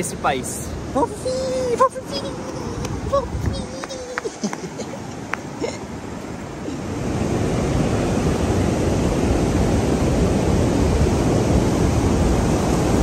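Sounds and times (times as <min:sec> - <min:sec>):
ocean surf breaking: 0:00.0 - 0:13.0
wind buffeting microphone: 0:00.8 - 0:13.0.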